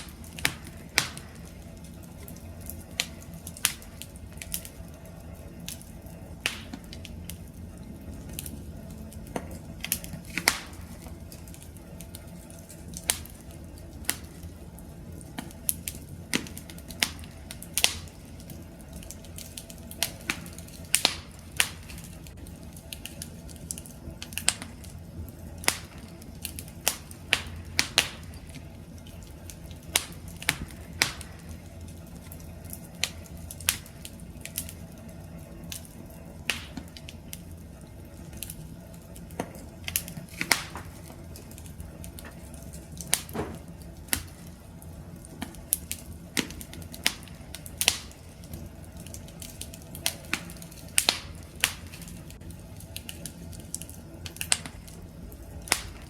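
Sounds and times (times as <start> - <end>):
campfire pops and snaps: 0.0 - 56.0
low rumble of burning fire: 0.0 - 56.0.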